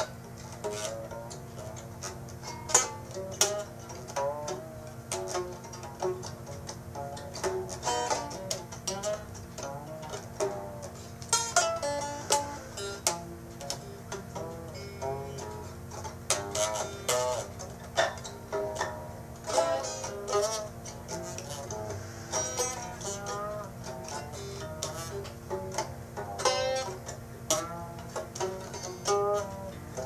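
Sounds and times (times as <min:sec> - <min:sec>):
plucked string music: 0:00.0 - 0:30.0
steady low hum: 0:00.0 - 0:30.0.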